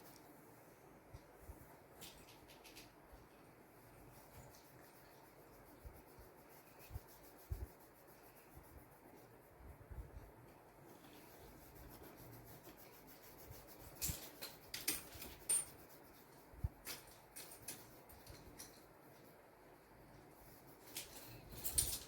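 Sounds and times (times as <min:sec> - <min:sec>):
paintbrush rubbing on paper: 0:01.5 - 0:21.5.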